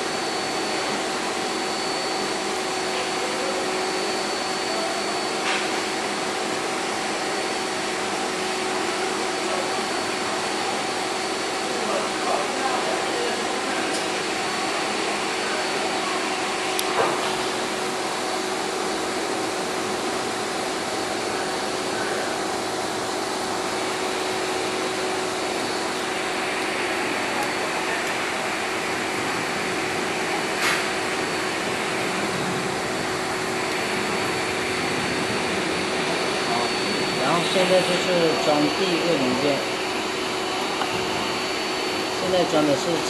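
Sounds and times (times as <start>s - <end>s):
fan motor hum and air rush: 0.0s - 43.0s.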